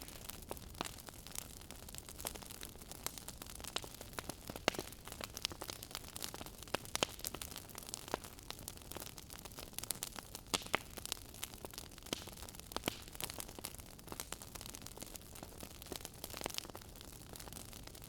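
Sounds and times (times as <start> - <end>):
soft hiss of fire: 0.0 - 18.0
wood fire crackling and popping: 0.0 - 18.0.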